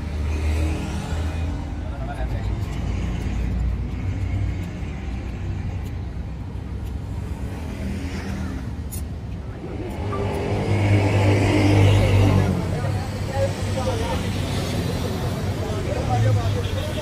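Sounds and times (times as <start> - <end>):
engine rumble: 0.8 - 16.4.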